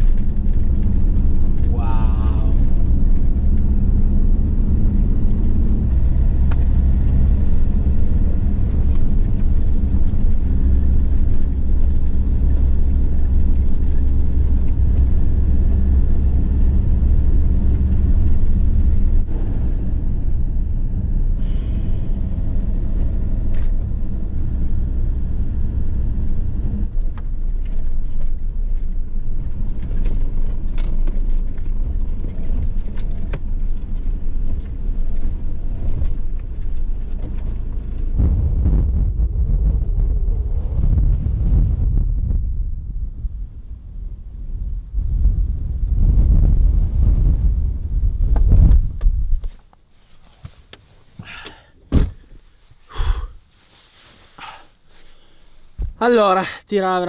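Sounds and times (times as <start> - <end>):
van engine and road drone: 0.0 - 57.0.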